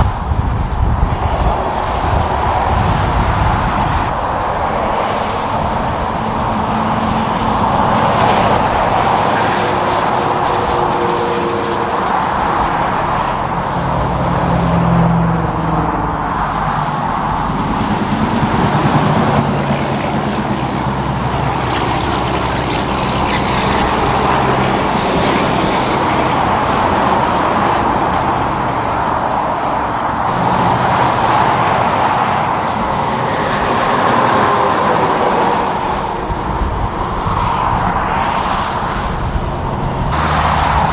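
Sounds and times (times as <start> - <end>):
diesel truck engines passing: 0.0 - 40.9.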